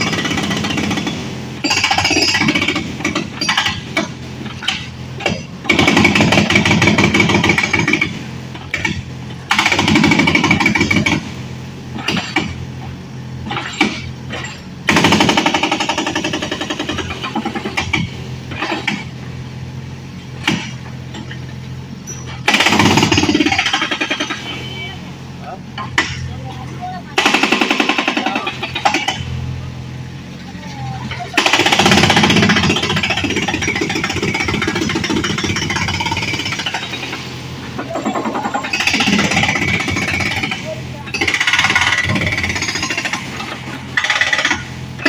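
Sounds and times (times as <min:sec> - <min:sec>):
excavator engine hum: 0:00.0 - 0:45.0.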